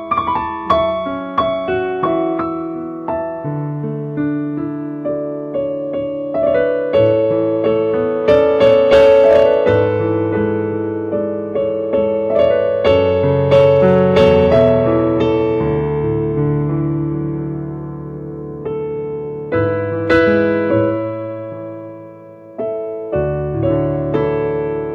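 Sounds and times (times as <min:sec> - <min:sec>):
piano music: 0:00.0 - 0:24.9.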